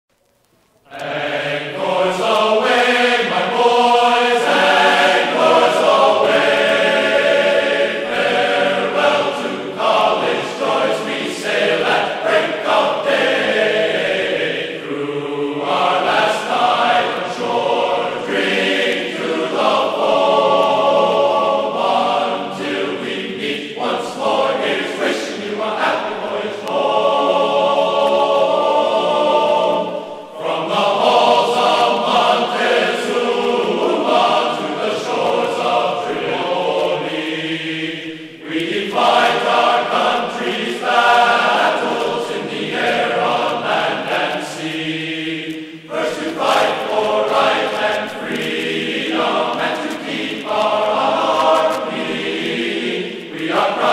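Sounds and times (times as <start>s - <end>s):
choir singing: 0.8s - 53.9s.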